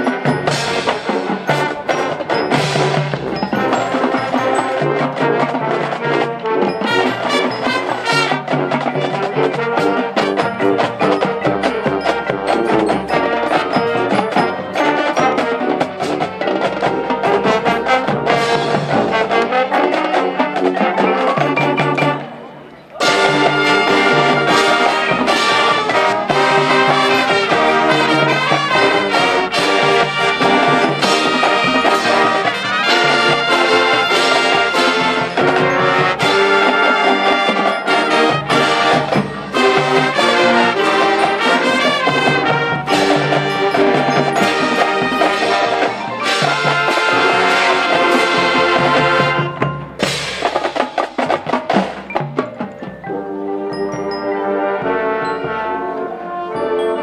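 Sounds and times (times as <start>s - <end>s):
brass section: 0.0s - 51.9s, 53.1s - 57.0s
drums and percussion: 0.0s - 57.0s
marching band playing: 0.0s - 57.0s.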